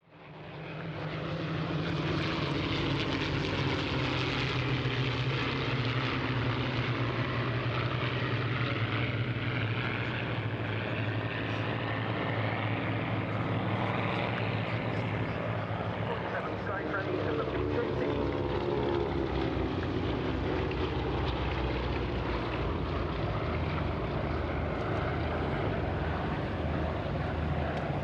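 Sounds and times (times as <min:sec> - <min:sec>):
propeller aircraft engine drone: 0:00.0 - 0:28.0.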